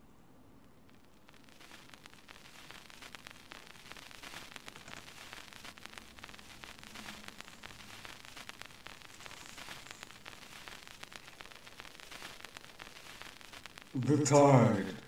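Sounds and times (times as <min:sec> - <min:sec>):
static crackling: 0:00.0 - 0:15.0
static hiss: 0:00.0 - 0:15.0.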